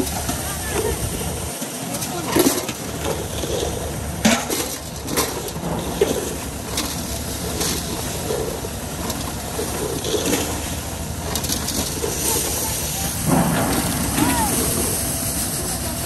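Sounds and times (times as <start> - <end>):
maize sheller running: 0.0 - 16.0.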